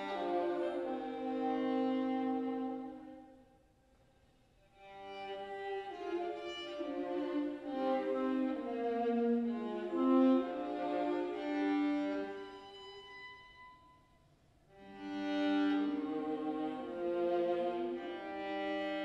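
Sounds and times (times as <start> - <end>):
bowed viola notes: 0.0 - 3.3, 4.8 - 19.0.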